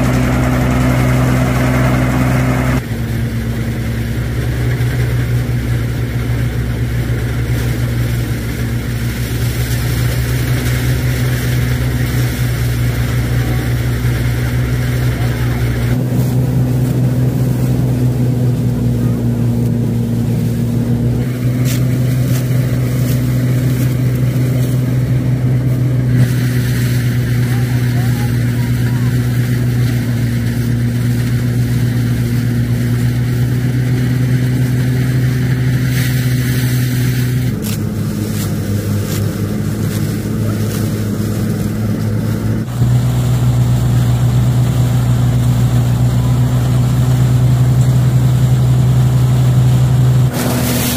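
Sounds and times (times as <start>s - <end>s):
small engine running: 0.0s - 50.9s.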